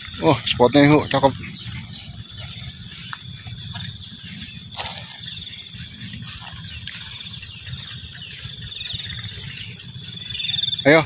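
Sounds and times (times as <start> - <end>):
constant low rumble: 0.0 - 11.0
high-pitched insect chorus: 0.0 - 11.0.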